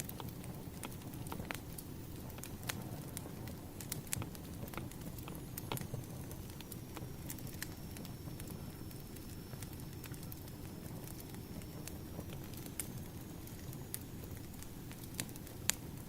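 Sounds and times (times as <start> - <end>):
firewood crackling: 0.0 - 16.0
low rumble of fire: 0.0 - 16.0.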